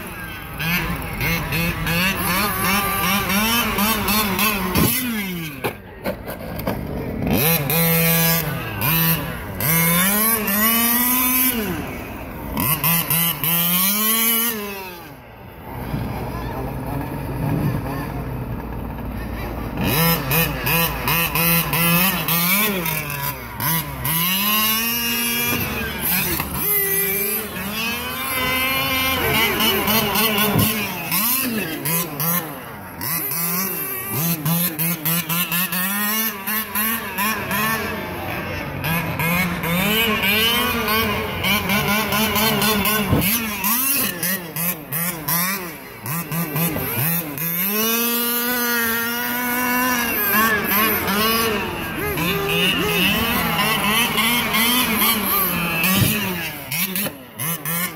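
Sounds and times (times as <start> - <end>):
rc truck motor revving: 0.0 - 57.9.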